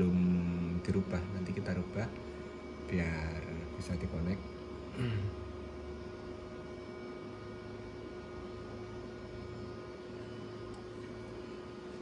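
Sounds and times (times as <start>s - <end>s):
room tone hum with hiss: 0.0s - 12.0s.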